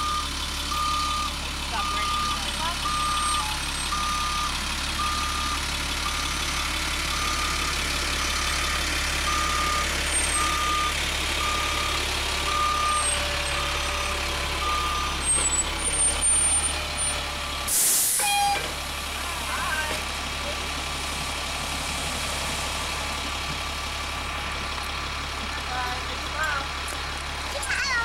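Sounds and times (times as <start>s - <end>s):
bus engine idling: 0.0s - 28.0s.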